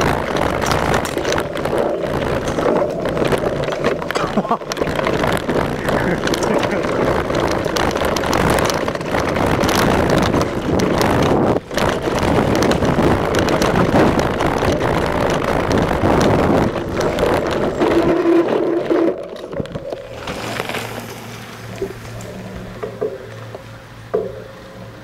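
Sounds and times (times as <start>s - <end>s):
bike tyres on dirt trail: 0.0s - 25.0s
wind on microphone: 0.0s - 25.0s.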